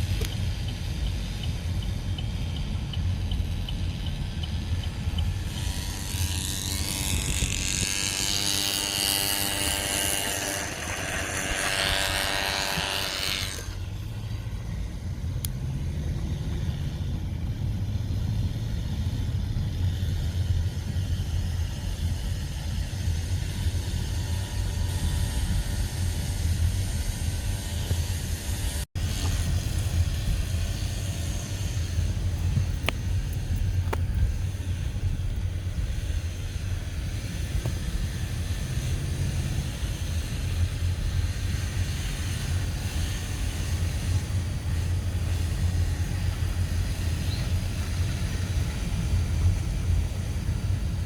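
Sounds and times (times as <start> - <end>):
rushing noise with rising tone: 0.0 - 51.0
small engine running: 0.0 - 51.0.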